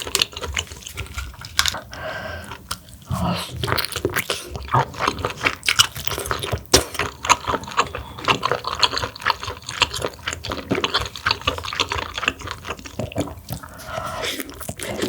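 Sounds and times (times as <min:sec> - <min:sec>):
slurping and chewing: 0:00.0 - 0:15.0.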